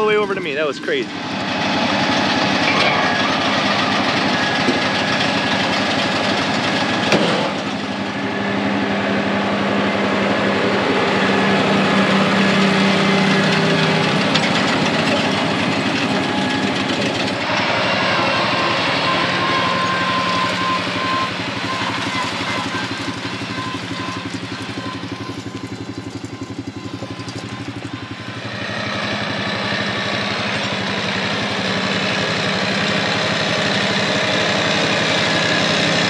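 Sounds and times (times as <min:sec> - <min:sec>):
diesel tractor engines running: 0:00.0 - 0:36.0.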